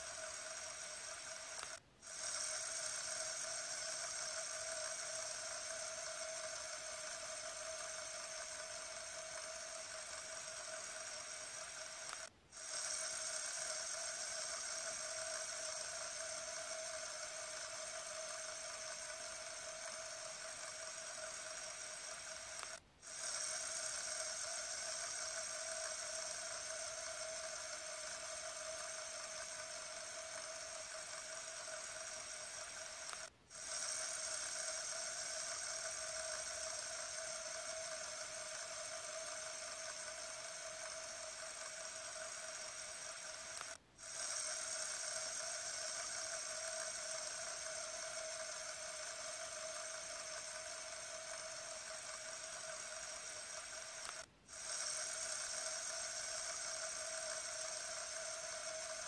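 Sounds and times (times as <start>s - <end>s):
fidget spinner whirring: 0.0s - 59.0s.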